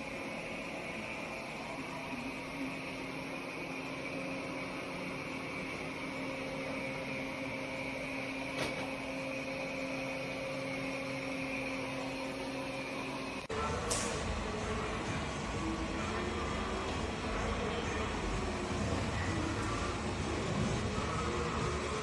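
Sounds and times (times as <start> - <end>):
robot vacuum cleaner running: 0.0 - 22.0.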